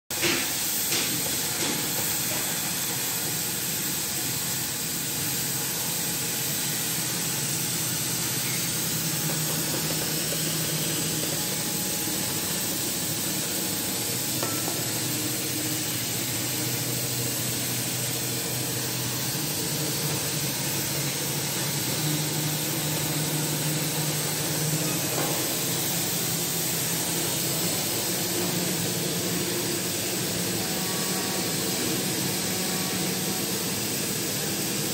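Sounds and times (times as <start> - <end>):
cutting torch hissing: 0.2 - 34.8.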